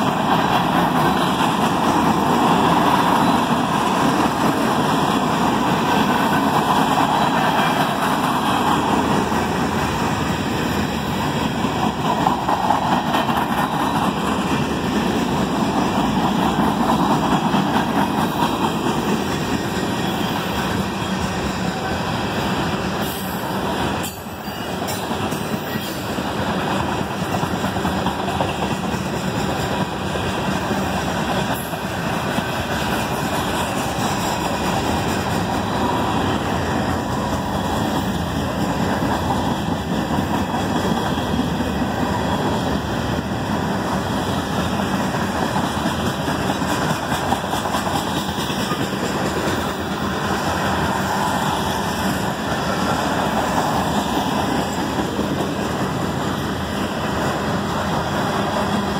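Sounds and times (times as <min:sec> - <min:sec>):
train wheels on rails: 0:00.0 - 0:58.9.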